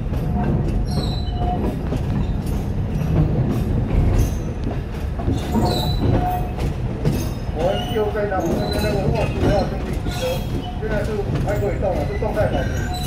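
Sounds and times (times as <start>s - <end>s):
train wheels rumbling on track: 0.0s - 13.0s
wheels clacking over rail joints: 0.0s - 13.0s.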